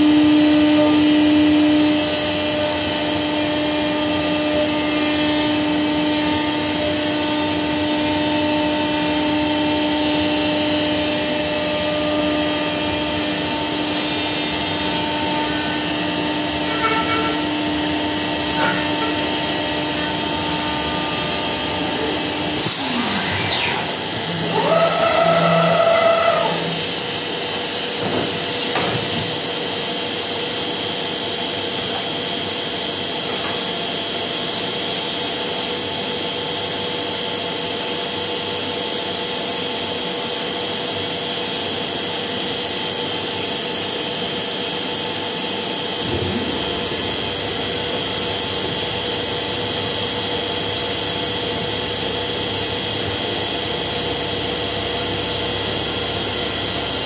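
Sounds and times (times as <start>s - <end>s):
machine whooshing hum: 0.0s - 34.5s, 43.4s - 57.0s
machine high whine: 0.0s - 57.0s.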